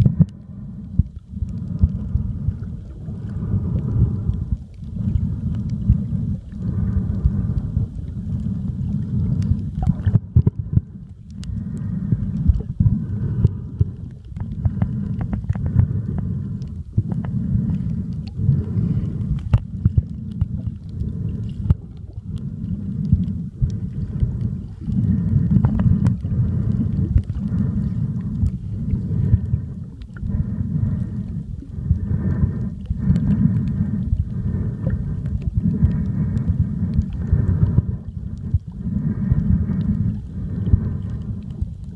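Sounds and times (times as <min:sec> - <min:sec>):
muffled underwater rumble: 0:00.0 - 0:41.9.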